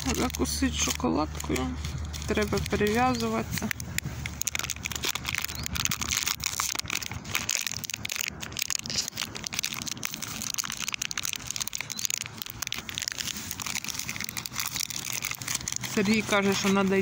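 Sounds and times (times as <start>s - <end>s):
crinkly wrapper rustling: 0.0s - 17.0s.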